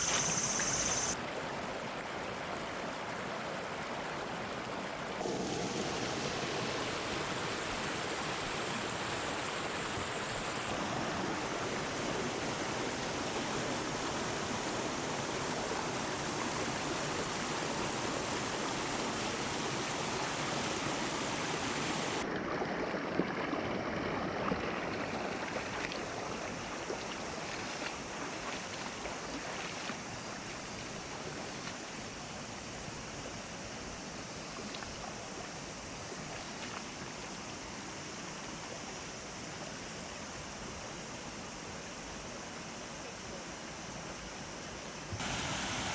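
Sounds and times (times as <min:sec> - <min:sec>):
river water rushing: 0:00.0 - 0:39.5, 0:45.1 - 0:45.9.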